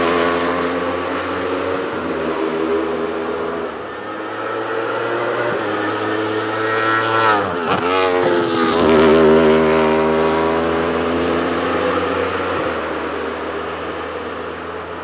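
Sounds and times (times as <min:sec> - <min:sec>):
race car engine passing at speed: 0:00.0 - 0:15.0.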